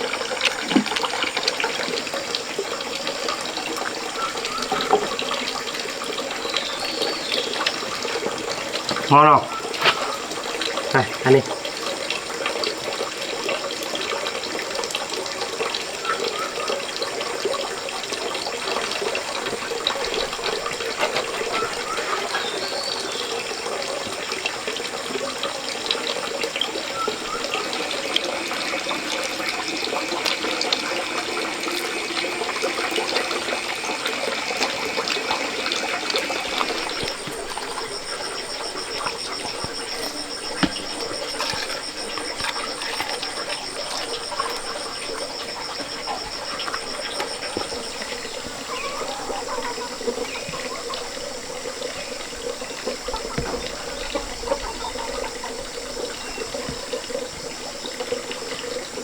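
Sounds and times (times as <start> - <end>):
high insect buzz: 0.0 - 16.0, 27.2 - 59.0
flowing water: 0.0 - 59.0
high pulsing insect or frog calls: 0.0 - 59.0.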